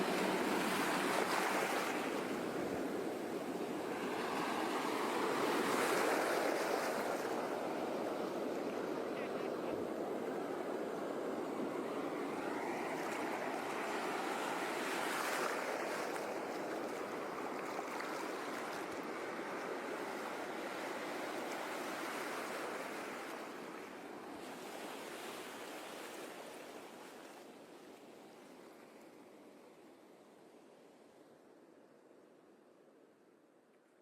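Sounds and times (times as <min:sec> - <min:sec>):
sea waves washing onto shore: 0:00.0 - 0:28.7.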